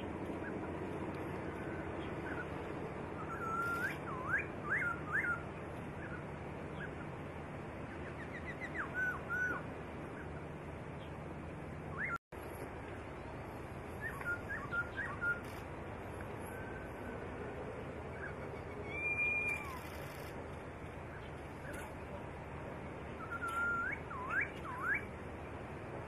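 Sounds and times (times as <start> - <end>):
songbird singing: 0.0 - 17.3, 17.9 - 22.2, 22.8 - 25.6.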